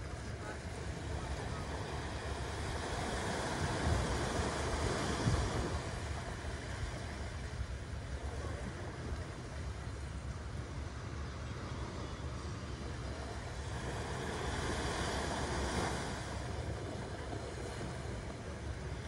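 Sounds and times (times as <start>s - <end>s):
small waves washing on sand: 0.0s - 19.0s
wind rumble on microphone: 0.0s - 19.0s.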